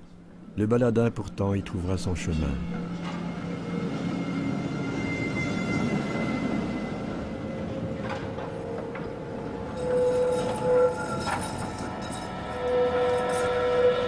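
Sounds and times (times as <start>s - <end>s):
train rumbling on rails: 1.2s - 14.0s.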